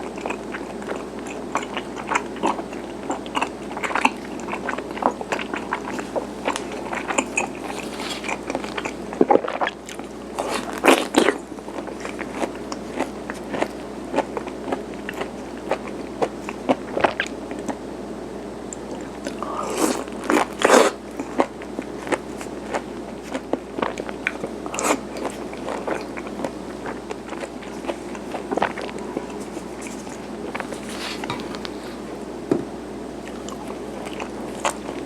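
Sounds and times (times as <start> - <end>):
biting food: 0.0 - 17.8, 18.7 - 32.0, 33.2 - 35.0
chewing sticky food: 0.0 - 17.9, 18.5 - 32.3, 33.2 - 35.0.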